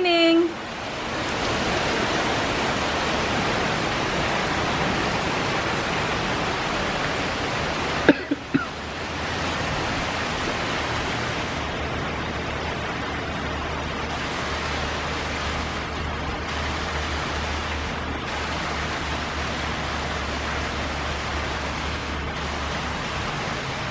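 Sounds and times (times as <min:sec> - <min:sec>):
rain on yard and roof: 0:00.0 - 0:23.9.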